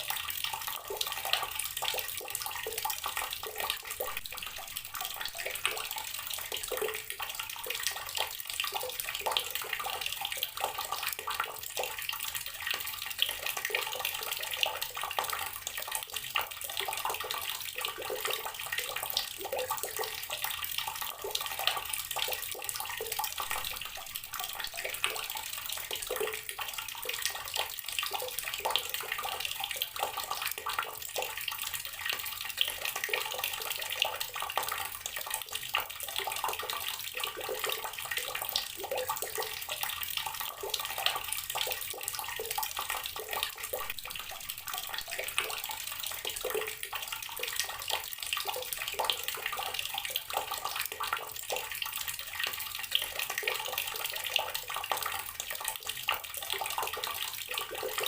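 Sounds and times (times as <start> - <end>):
tap water pouring into water: 0.0 - 58.0.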